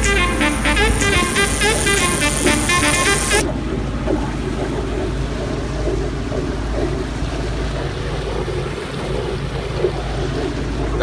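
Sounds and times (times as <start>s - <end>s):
low even hum: 0.0s - 11.0s
water rushing: 0.0s - 11.0s.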